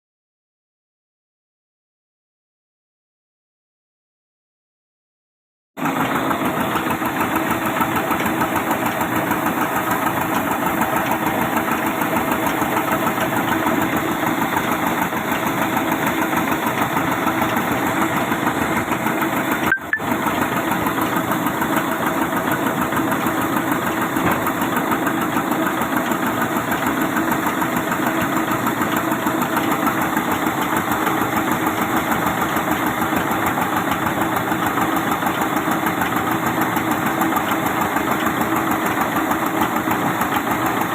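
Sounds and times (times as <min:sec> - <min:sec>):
sawmill machinery drone: 0:05.8 - 0:40.9.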